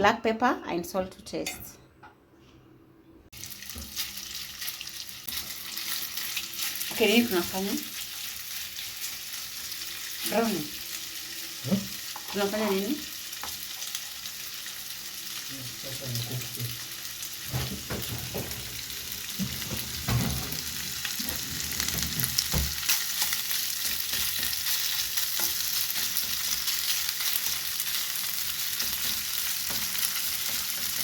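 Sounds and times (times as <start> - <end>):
meat sizzling in oil: 3.3 - 31.0.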